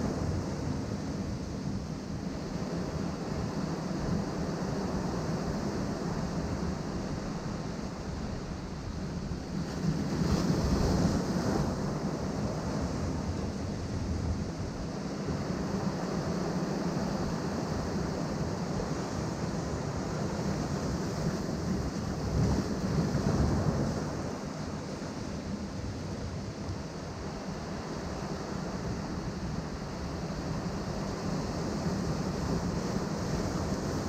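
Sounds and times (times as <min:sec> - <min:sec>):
ocean surf on rocky shore: 0:00.0 - 0:34.0.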